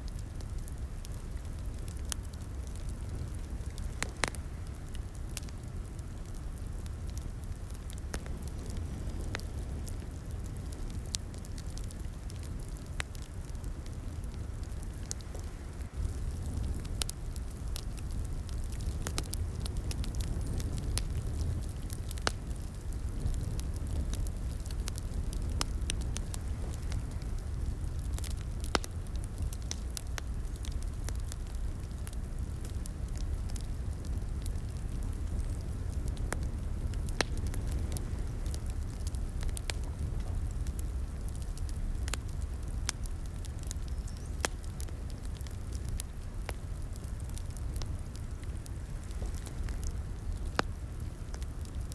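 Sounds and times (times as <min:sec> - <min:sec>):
fire crackling: 0:00.0 - 0:51.9.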